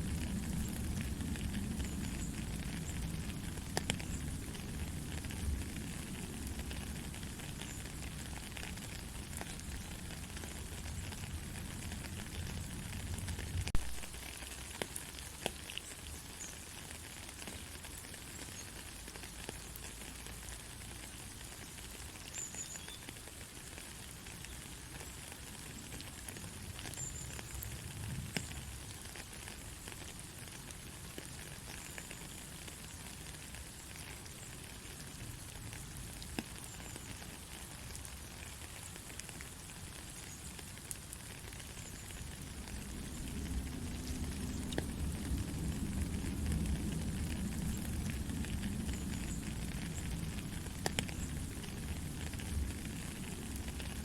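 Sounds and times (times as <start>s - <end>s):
gentle rain patter: 0.0s - 54.0s
louder rain drop: 0.0s - 54.0s.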